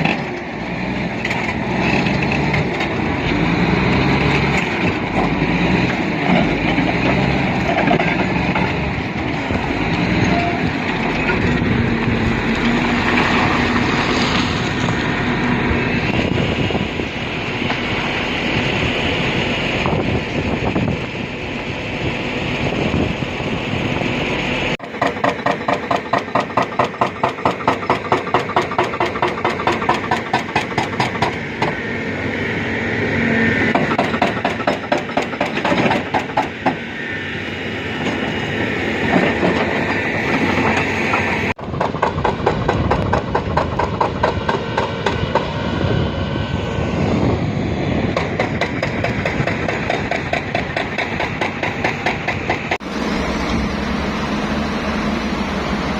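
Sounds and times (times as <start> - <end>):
diesel engines running: 0.0 - 55.9
steel tracks clanking: 0.0 - 55.9.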